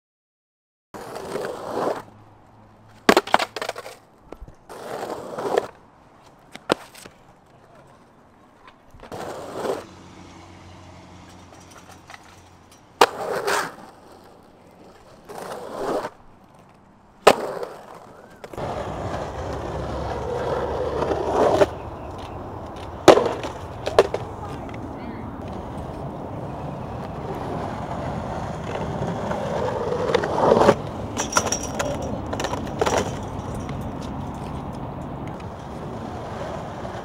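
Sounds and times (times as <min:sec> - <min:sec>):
skateboard clacking on ground: 0:01.0 - 0:02.2, 0:02.8 - 0:09.9, 0:11.2 - 0:37.0
skateboard wheels rolling on concrete: 0:01.0 - 0:37.0.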